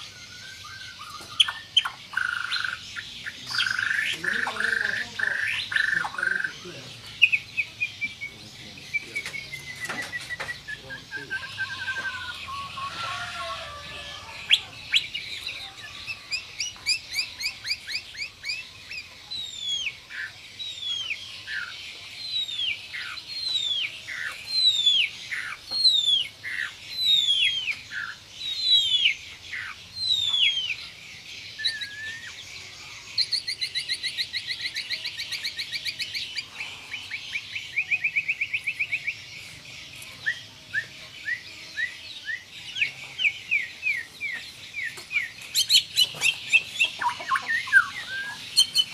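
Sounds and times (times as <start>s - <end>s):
bird singing: 0.0s - 48.9s.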